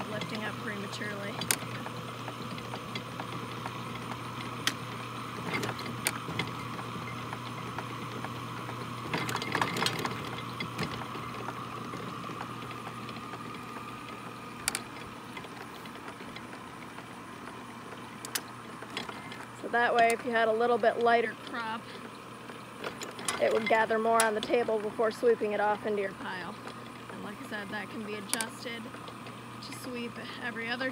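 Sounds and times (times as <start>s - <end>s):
electric motor hum: 0.0s - 30.9s.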